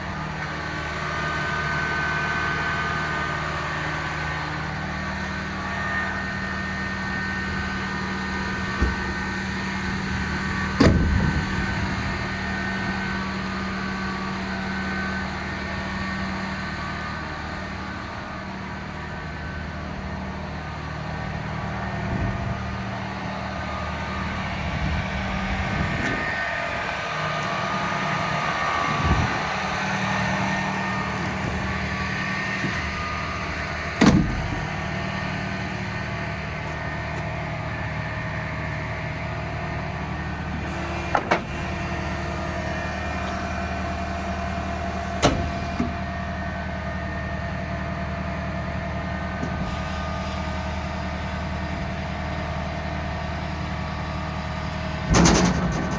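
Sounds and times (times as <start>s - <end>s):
baler machinery drone: 0.0s - 55.9s
tractor engine hum: 0.0s - 55.9s.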